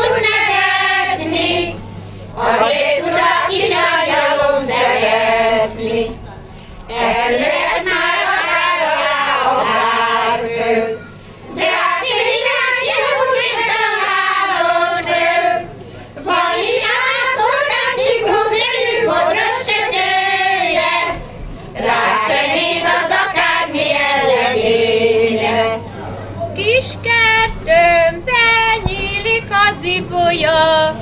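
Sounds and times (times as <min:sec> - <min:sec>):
women's choir singing folk song: 0:00.0 - 0:25.8.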